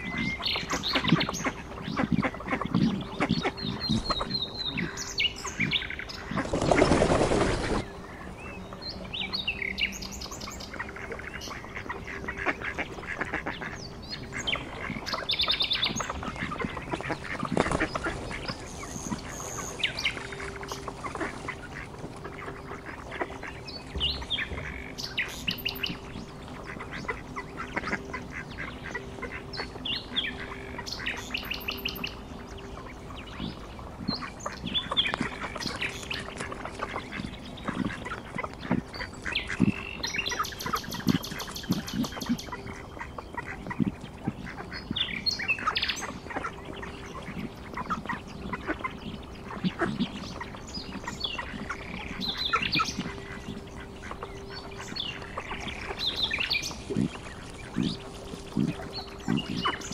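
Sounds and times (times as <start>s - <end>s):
birds chirping: 0.0s - 59.9s
ducks calling: 0.0s - 59.9s.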